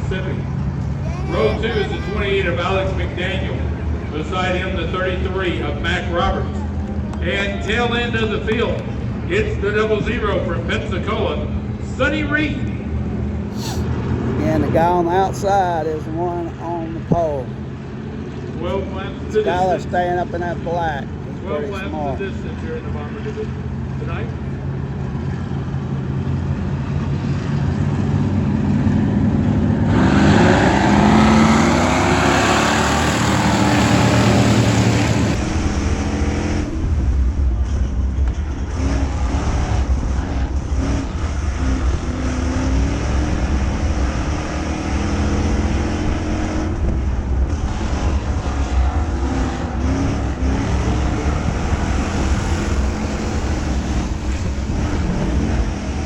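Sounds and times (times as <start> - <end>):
race car engines running: 0.0 - 56.0.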